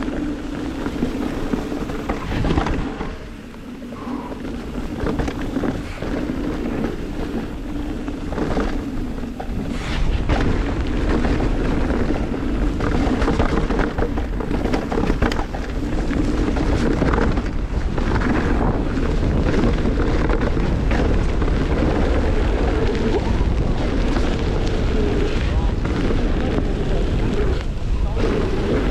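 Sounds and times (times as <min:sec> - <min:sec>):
bike clattering over bumps: 0:00.0 - 0:28.9
tyres rushing on dirt: 0:00.0 - 0:28.9
wind buffeting microphone: 0:00.0 - 0:28.9.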